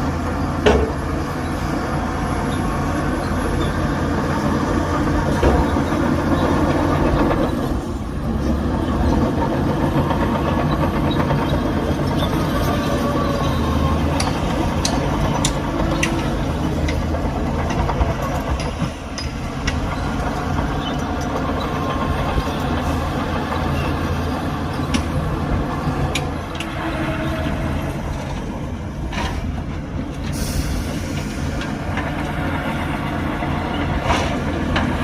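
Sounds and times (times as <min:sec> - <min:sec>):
bulldozer diesel engine running: 0:00.0 - 0:35.0
metallic clanks from tracks: 0:00.6 - 0:01.2, 0:04.9 - 0:08.6, 0:09.2 - 0:35.0.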